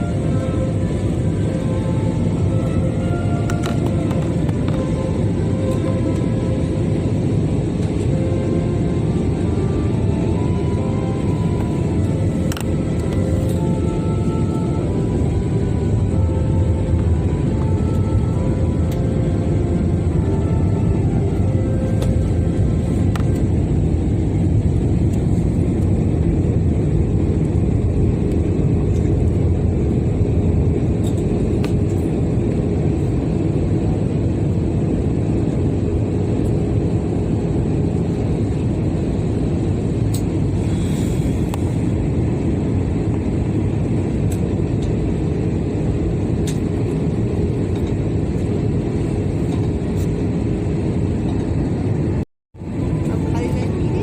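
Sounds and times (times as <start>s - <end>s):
aircraft engines and airflow: 0.0s - 54.0s.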